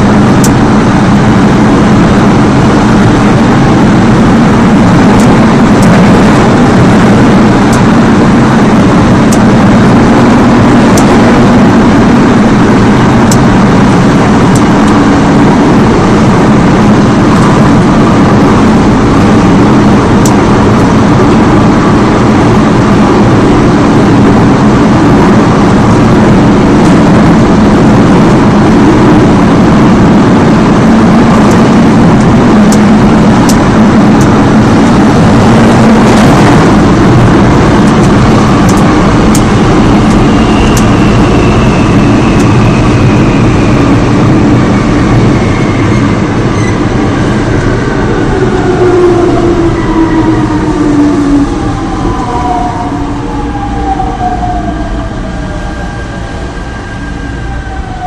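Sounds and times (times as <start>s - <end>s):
faint steady whine: 0.0s - 58.0s
train wheels rumbling: 0.0s - 58.0s.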